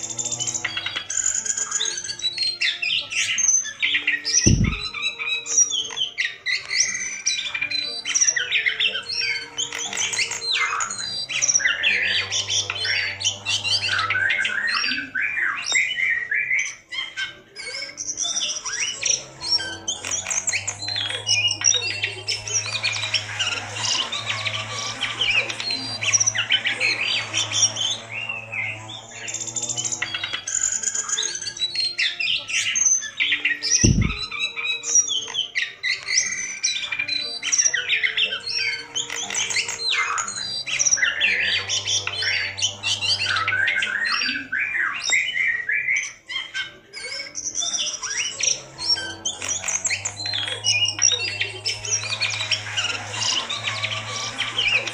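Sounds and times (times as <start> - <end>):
bird singing chirps and trills: 0.0 - 54.9
faint background music: 0.0 - 54.9.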